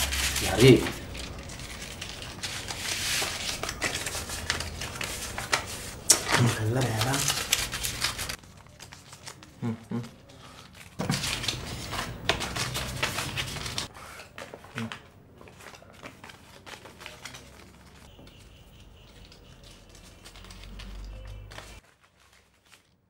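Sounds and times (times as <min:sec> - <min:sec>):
paper rustling and crinkling: 0:00.0 - 0:23.0.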